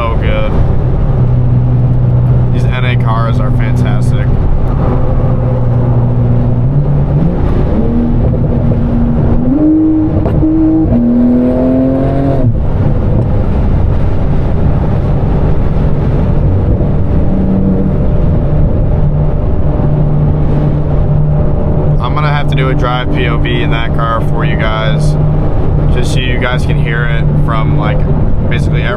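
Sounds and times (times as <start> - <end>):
car engine accelerating with upshifts: 0.0 - 28.9.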